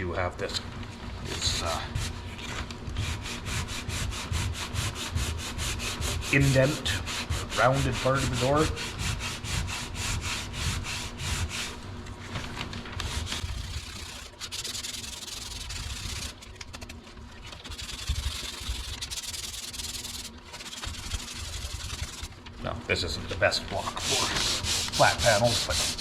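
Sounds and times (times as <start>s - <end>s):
sandpaper rasping back and forth: 1.4s - 11.8s, 13.0s - 22.4s, 23.8s - 26.0s.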